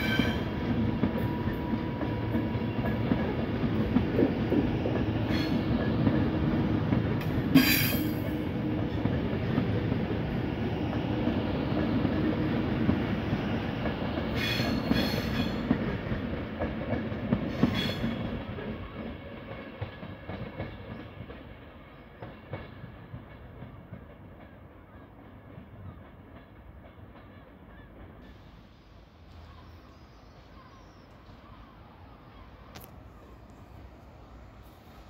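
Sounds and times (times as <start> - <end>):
train wheels clattering over rails: 0.0 - 28.5.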